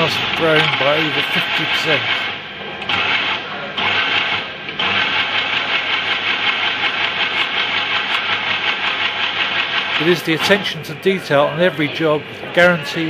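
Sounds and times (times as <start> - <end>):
coil winding machine running: 0.0 - 13.0.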